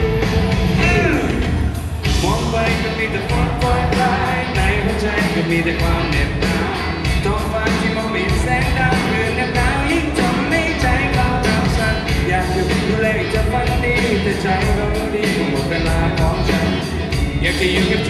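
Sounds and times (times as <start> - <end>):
live pop-rock band: 0.0 - 18.0
person singing: 0.0 - 18.0.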